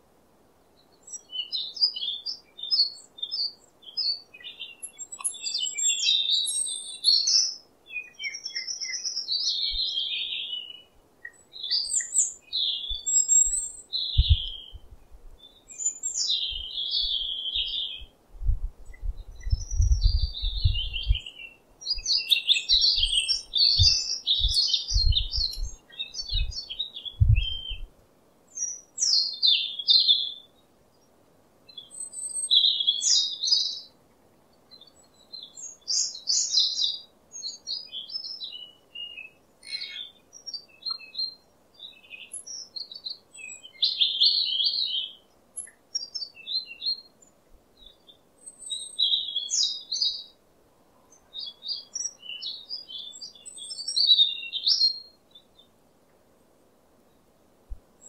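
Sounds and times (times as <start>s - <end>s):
robin singing: 0.6s - 50.4s, 51.0s - 56.2s.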